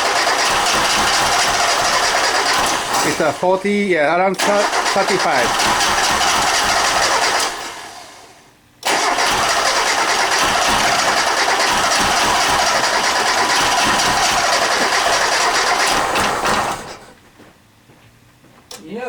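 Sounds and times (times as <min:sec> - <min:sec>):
car engine cranking on starter: 0:00.0 - 0:03.7, 0:04.4 - 0:17.2.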